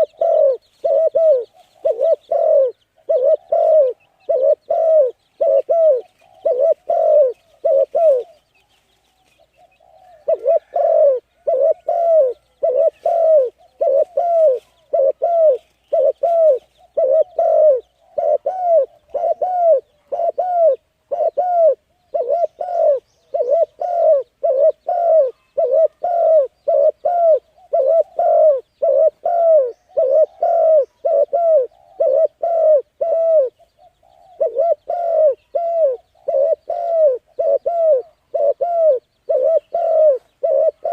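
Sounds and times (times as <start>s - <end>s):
bird cooing: 0.0s - 40.9s.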